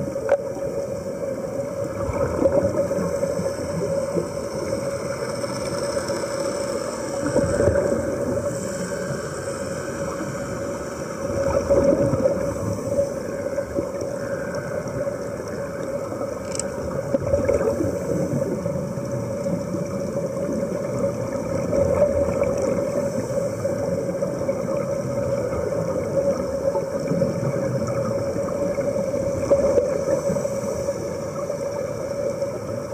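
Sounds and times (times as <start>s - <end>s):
underwater hum and hiss: 0.0s - 32.9s.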